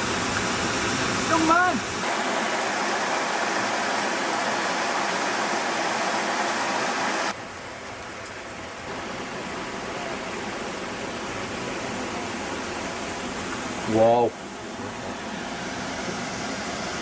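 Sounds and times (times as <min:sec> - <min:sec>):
waterfall rushing: 0:00.0 - 0:07.4, 0:08.4 - 0:17.0.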